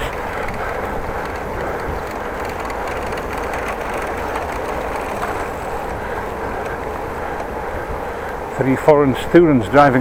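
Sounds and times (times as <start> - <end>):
wind on microphone: 0.0 - 8.6
bicycle tyres rolling on road: 0.0 - 10.0.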